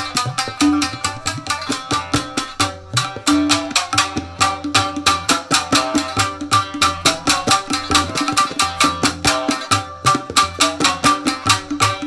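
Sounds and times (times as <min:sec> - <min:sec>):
plucked shamisen notes: 0:00.0 - 0:12.0
rapid tabla strokes: 0:00.0 - 0:12.0.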